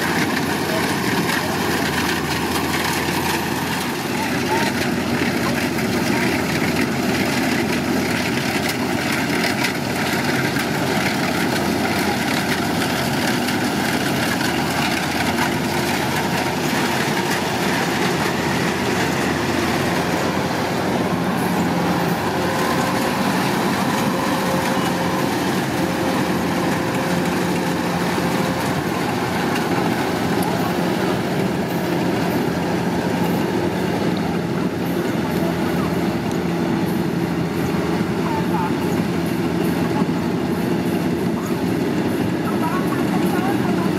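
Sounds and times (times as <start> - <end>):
diesel engine hum: 0.0 - 43.9
rattle and whir of threshing drum: 0.0 - 43.9.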